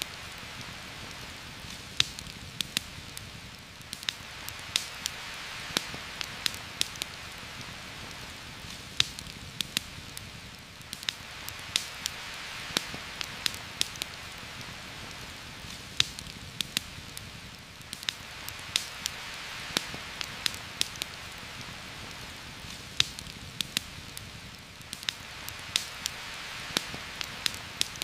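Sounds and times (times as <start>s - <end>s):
campfire crackling and popping: 0.0s - 28.0s
steady rain: 0.0s - 28.0s.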